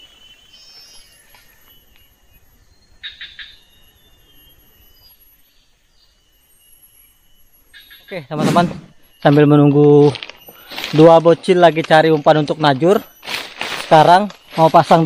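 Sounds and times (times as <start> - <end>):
high calls of forest creatures: 0.0 - 15.0.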